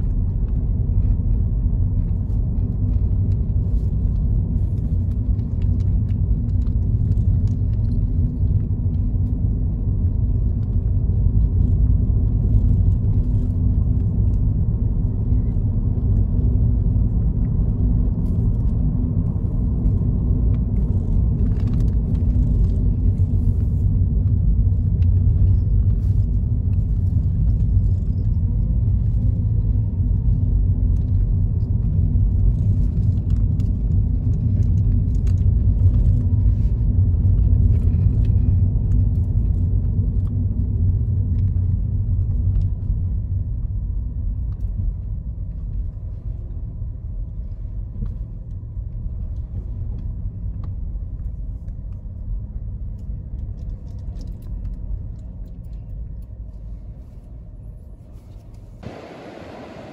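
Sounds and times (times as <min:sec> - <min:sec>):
car interior road rumble: 0:00.0 - 0:59.9.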